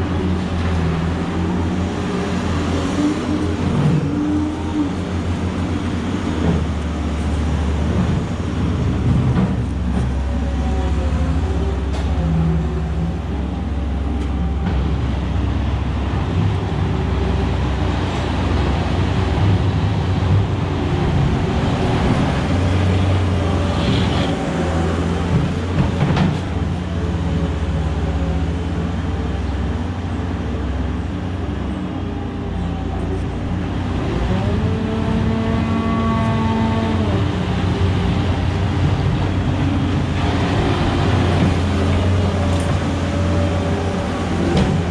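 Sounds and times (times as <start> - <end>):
vehicle engine humming: 0.0 - 44.9.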